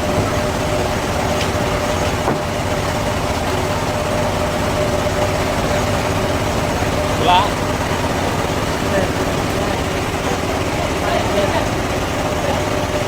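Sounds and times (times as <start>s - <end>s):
sawmill machinery droning: 0.0s - 13.0s.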